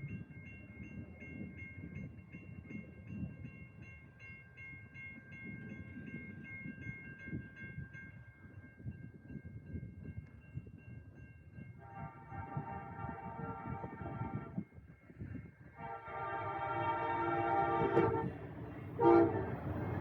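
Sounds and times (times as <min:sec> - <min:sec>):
railroad crossing bell dinging: 0:00.0 - 0:20.0.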